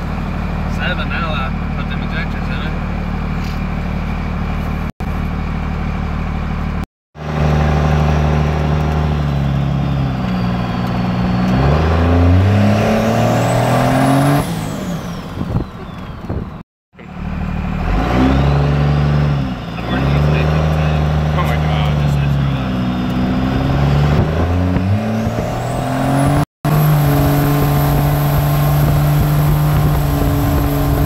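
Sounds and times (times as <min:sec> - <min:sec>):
diesel engine revving: 0:00.0 - 0:31.0.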